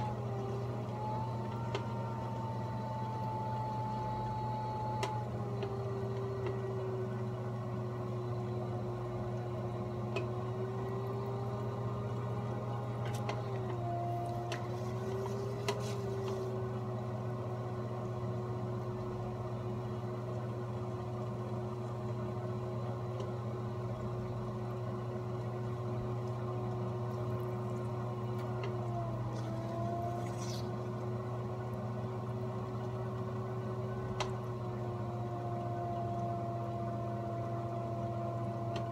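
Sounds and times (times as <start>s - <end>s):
pottery wheel motor hum: 0.0s - 38.9s.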